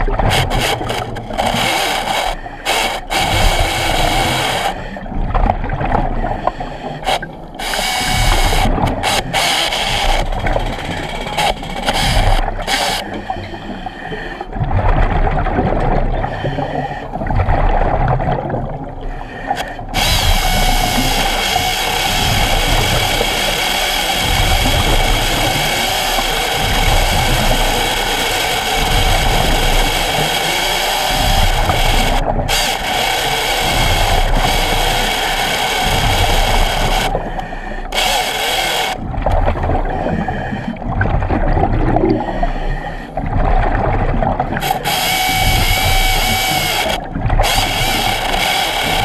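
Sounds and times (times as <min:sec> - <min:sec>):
chainsaw cutting wood underwater: 0:00.0 - 0:49.0.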